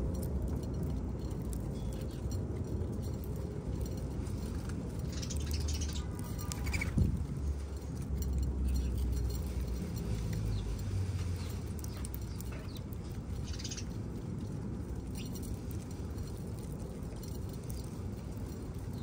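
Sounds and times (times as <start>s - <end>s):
birds pecking: 0.0s - 19.0s
small birds chirping: 1.5s - 2.4s, 3.8s - 19.0s.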